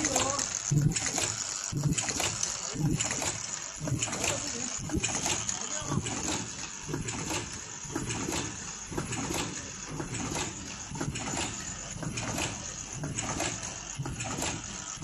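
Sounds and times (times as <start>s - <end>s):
continuous machine noise: 0.0s - 15.0s
machine clattering clicks and knocks: 0.0s - 15.0s.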